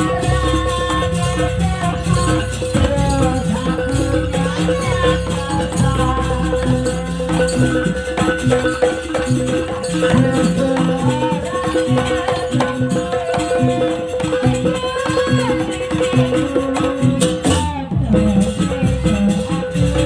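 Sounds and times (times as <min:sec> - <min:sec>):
drum and gong pattern: 0:00.0 - 0:20.0
wavering melody: 0:00.0 - 0:20.0.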